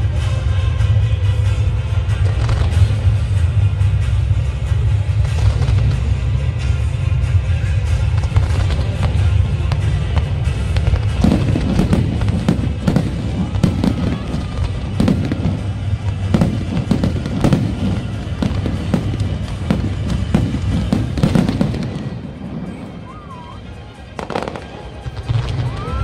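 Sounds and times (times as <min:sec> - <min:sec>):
fireworks bangs and crackling: 0:00.0 - 0:26.0
music: 0:00.0 - 0:26.0.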